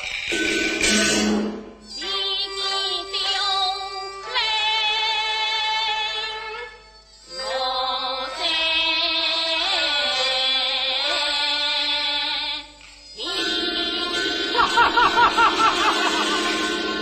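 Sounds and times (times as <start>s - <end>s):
opera music with held notes: 0.2s - 17.0s.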